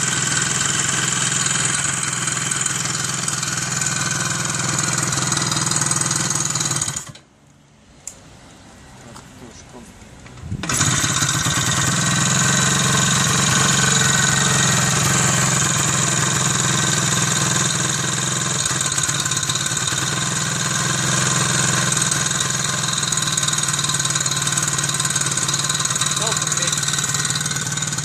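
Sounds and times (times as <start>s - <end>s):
motorcycle engine idling: 0.0s - 7.2s, 10.6s - 28.0s.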